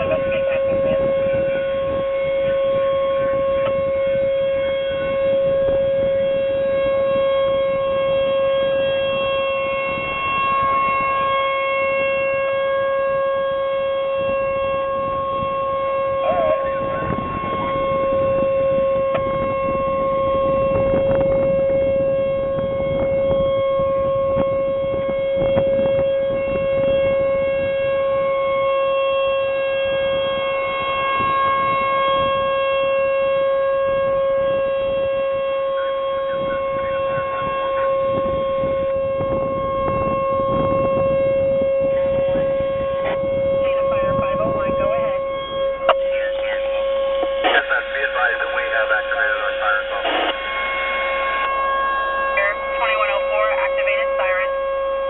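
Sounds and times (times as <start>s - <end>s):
tornado siren steady tone: 0.0s - 55.0s.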